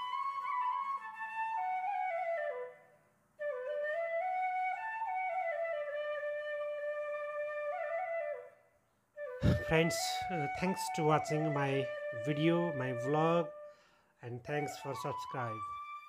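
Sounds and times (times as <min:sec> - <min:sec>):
solo flute playing slow melody: 0:00.0 - 0:13.8, 0:14.6 - 0:16.0.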